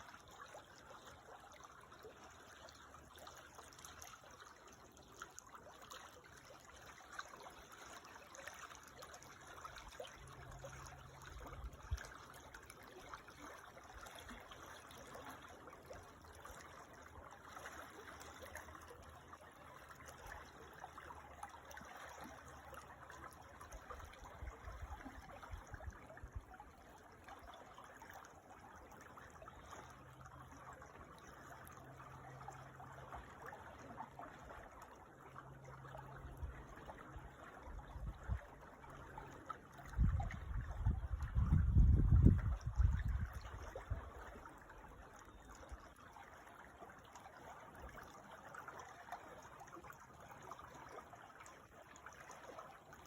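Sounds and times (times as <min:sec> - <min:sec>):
creek water trickling: 0:00.0 - 0:53.0.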